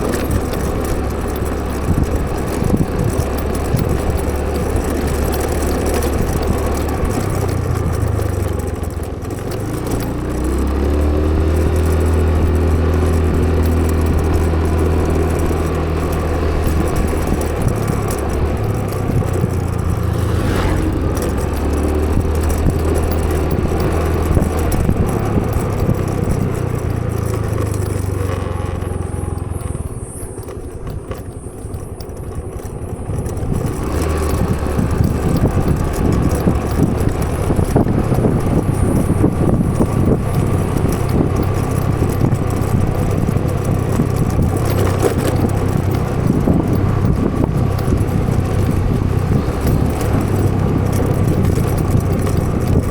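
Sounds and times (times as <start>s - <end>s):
road noise: 0.0s - 52.9s
vehicle engine humming: 0.0s - 52.9s.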